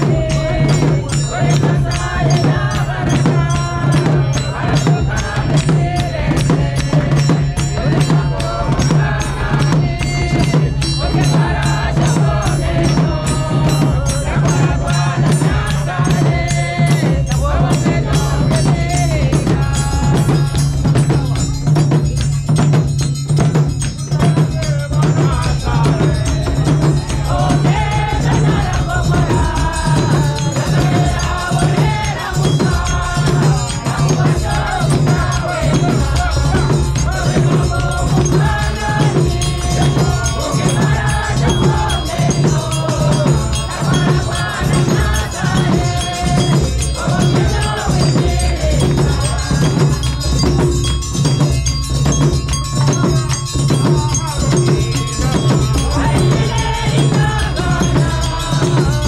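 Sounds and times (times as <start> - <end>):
choir singing a hymn: 0.0 - 20.6, 24.2 - 50.6, 55.0 - 59.0
drums beating: 0.0 - 59.0.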